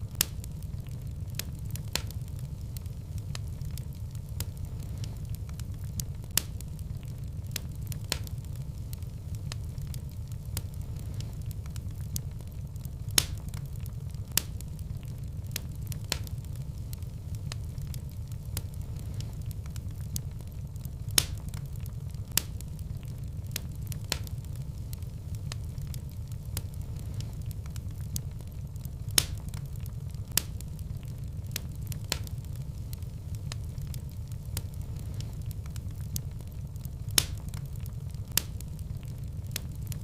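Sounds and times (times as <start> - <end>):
fire flames rumbling: 0.0 - 40.0
wood fire crackling and popping: 0.0 - 40.0.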